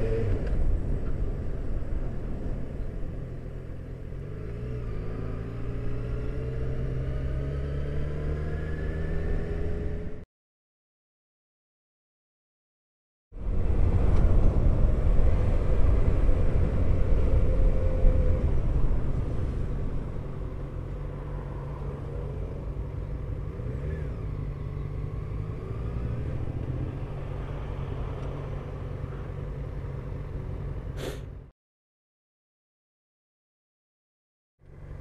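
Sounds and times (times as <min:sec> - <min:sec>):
wind and road noise: 0:00.0 - 0:10.3, 0:13.3 - 0:31.5, 0:34.6 - 0:35.0.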